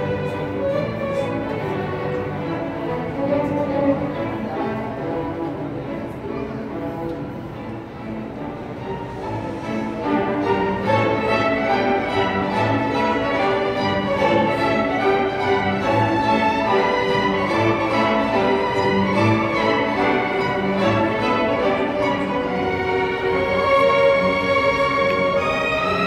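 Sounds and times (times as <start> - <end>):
string orchestra playing: 0.0 - 26.0.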